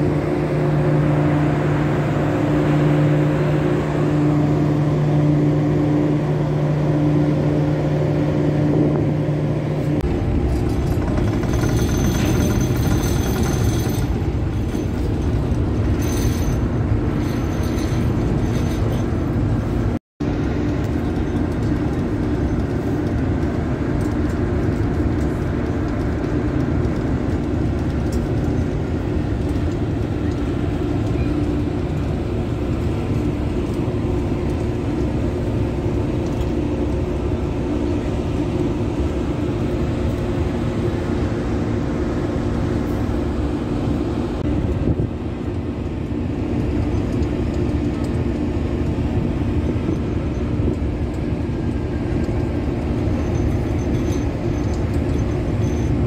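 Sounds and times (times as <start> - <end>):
ferry engine drone: 0.0 - 56.0.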